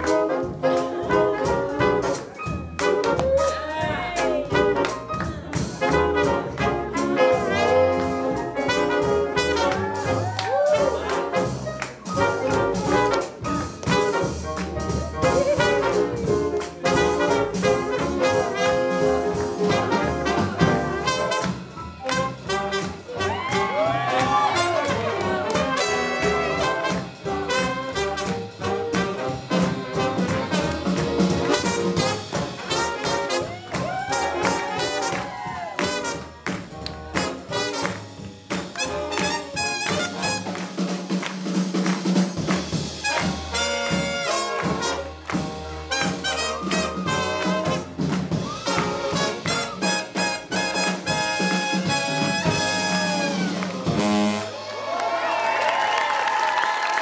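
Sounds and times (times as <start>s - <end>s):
swing jazz band playing: 0.0s - 57.0s
horns playing swooping phrases: 5.7s - 40.9s, 42.9s - 56.0s.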